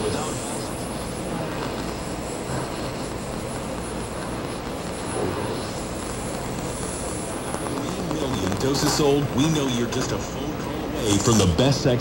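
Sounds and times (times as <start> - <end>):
radio static hissing: 0.0 - 12.0.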